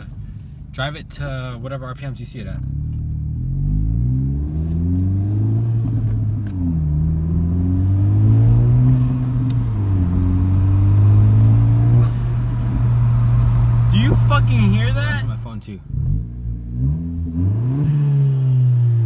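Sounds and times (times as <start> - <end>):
car engine accelerating: 2.6 - 19.0.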